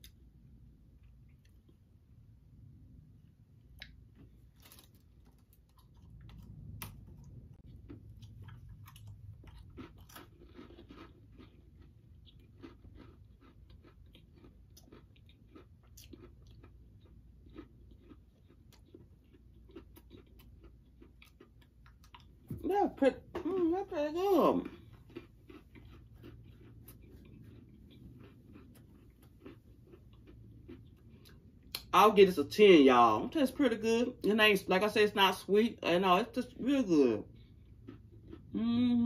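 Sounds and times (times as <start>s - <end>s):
person chewing crunchy cookie: 0.0s - 31.9s, 37.0s - 39.0s.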